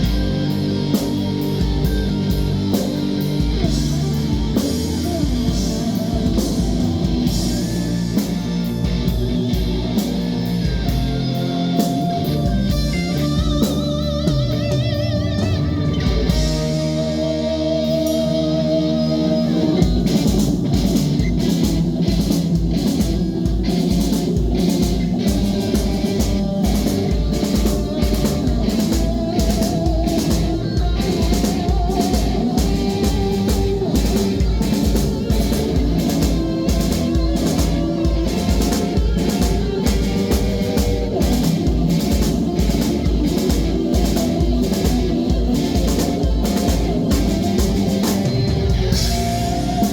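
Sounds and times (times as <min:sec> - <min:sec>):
drum kit: 0:00.0 - 0:49.9
electric guitar: 0:00.0 - 0:49.9.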